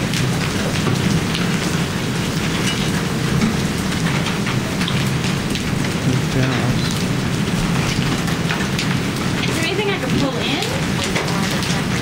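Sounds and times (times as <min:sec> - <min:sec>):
hail and heavy rain pelting: 0:00.0 - 0:12.0.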